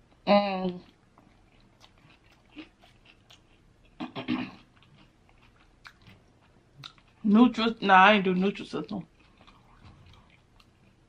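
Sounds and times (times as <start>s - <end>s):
chewing and mouth sounds: 0.1s - 7.4s, 8.9s - 11.0s.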